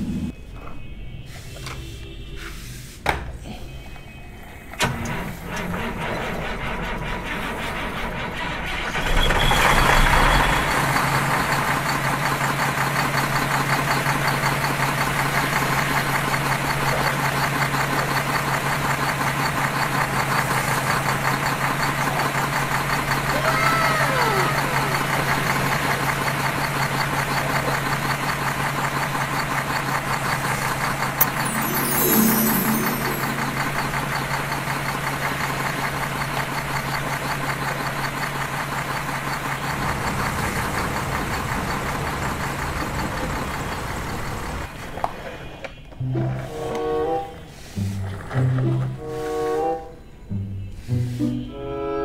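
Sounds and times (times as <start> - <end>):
toy vehicle mechanical hum: 3.7 - 51.4.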